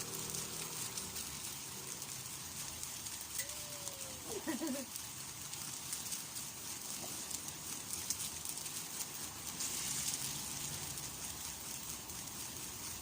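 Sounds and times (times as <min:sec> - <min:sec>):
fire crackling: 0:00.0 - 0:13.0.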